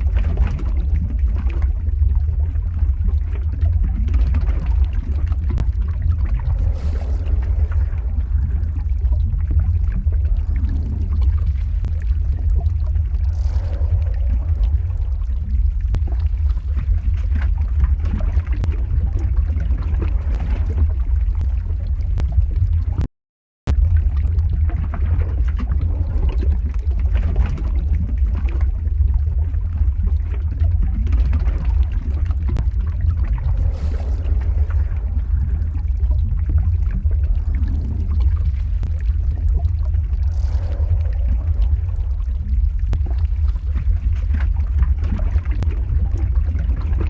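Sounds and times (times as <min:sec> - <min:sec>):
lava flow rumble: 0:00.0 - 0:23.1, 0:23.7 - 0:47.0.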